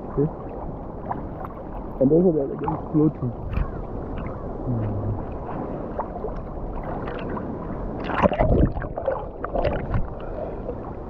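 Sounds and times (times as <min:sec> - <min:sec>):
sea water splashing: 0:00.0 - 0:11.0.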